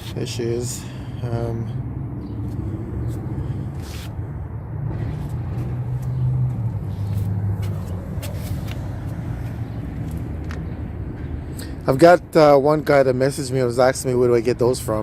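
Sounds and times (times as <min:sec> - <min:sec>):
motor vehicle rumble: 0:00.0 - 0:13.8.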